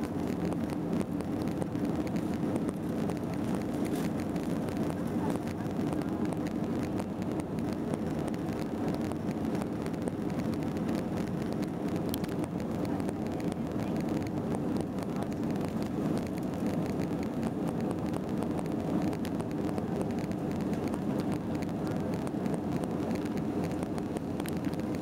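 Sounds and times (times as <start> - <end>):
jet engine and airflow roar: 0.0 - 25.0.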